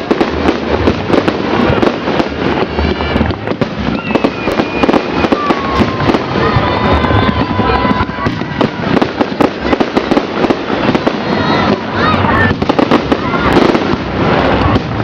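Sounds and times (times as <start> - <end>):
fireworks bangs and crackles: 0.0 - 15.0
fireworks whistling: 0.0 - 15.0.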